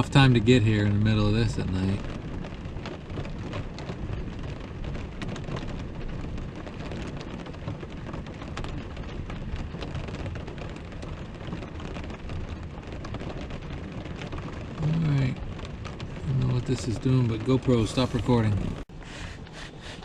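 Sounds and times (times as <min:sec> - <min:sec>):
low wind rumble: 0:00.0 - 0:20.0
rain ticking on roof: 0:00.0 - 0:20.0.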